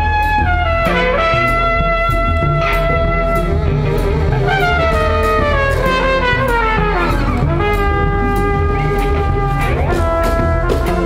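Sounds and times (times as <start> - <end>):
flugelhorn playing: 0.0 - 11.0
jazz band with drums: 0.0 - 11.0.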